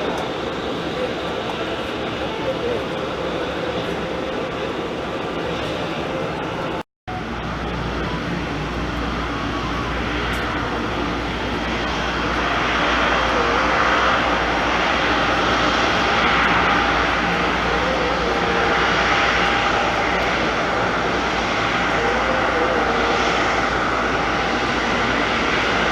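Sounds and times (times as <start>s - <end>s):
jet engines running: 0.0s - 25.9s.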